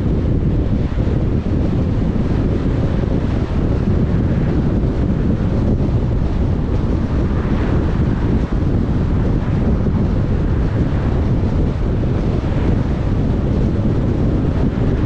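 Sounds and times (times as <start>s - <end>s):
car driving rumble: 0.0s - 15.0s
road noise: 0.0s - 15.0s
wind noise: 0.0s - 15.0s.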